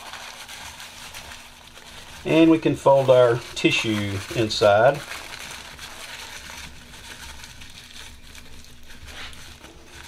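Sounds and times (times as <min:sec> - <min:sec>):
tissue paper crinkling: 0:00.0 - 0:10.0.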